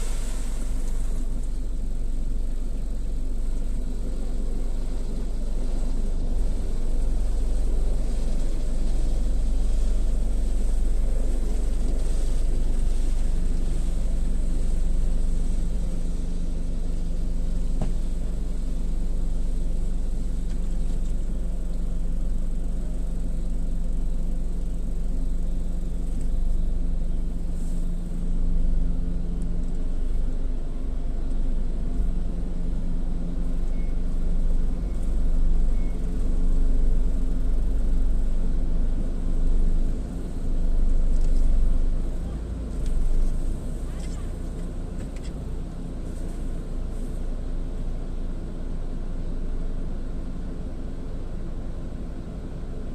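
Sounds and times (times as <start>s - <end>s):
motor hum: 0.0s - 49.4s
car wash machinery rumble: 0.0s - 52.9s.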